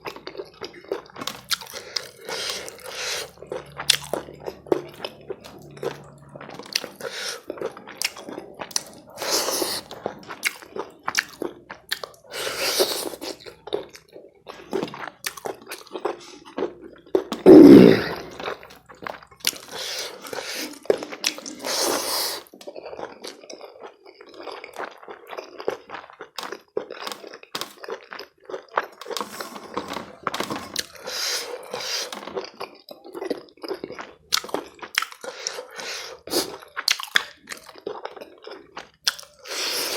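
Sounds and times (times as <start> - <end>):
food crunching: 0.0 - 39.9
wet chewing: 0.0 - 39.9.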